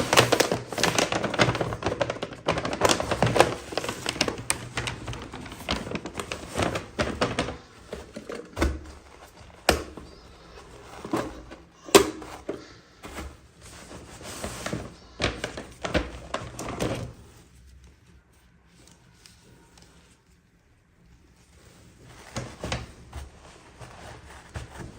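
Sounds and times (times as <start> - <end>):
toys and packaging handled: 0.0 - 24.9.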